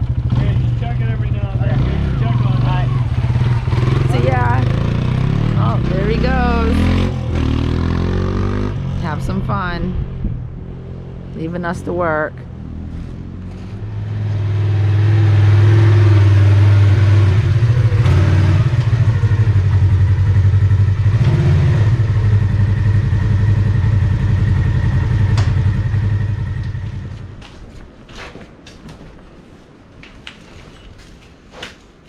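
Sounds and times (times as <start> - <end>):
vehicle engine running: 0.0 - 27.4.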